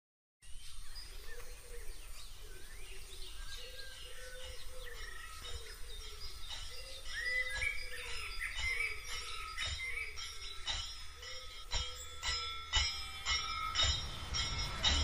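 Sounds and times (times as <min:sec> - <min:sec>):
birds chirping and calling: 0:00.4 - 0:15.0.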